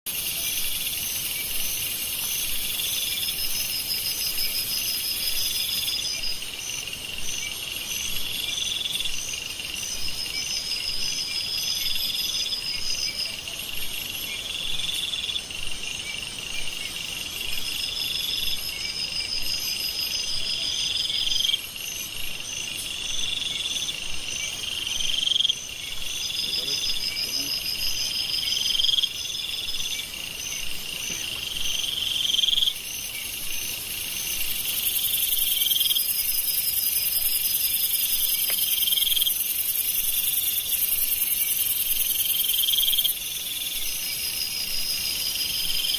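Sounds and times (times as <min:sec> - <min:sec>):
high insect trill: 0:00.1 - 0:45.9
insects pulsing chirp: 0:00.1 - 0:45.9
rising buzzy insect call: 0:00.1 - 0:45.9.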